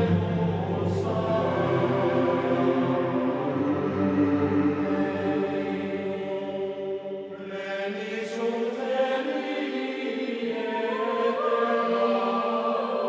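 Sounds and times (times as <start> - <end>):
choral voices chanting: 0.0 - 13.0.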